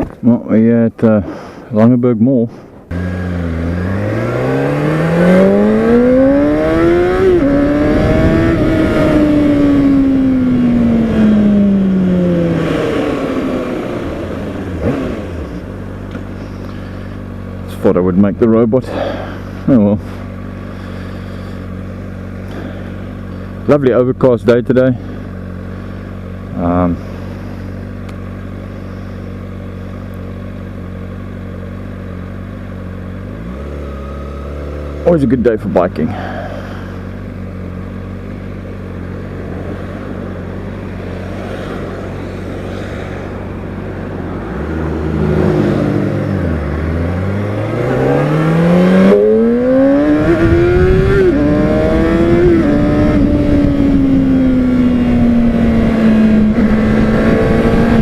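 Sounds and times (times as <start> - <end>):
motorcycle engine revving: 2.9 - 58.0.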